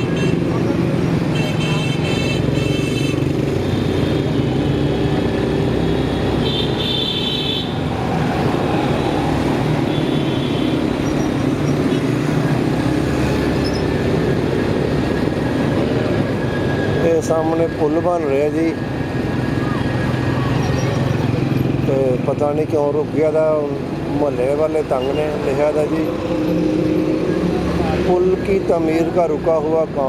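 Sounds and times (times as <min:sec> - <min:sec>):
traffic noise: 0:00.0 - 0:30.0.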